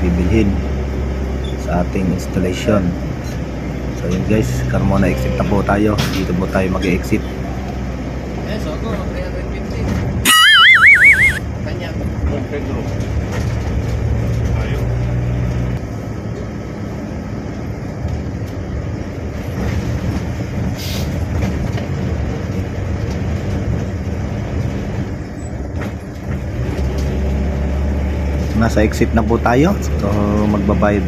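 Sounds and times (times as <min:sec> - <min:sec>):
road vehicle rumble: 0:00.0 - 0:31.0.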